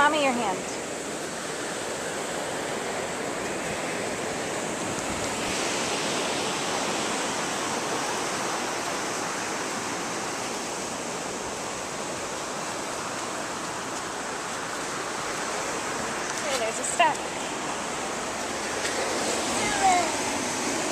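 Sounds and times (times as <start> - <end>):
ocean surf washing on beach: 0.0 - 20.9.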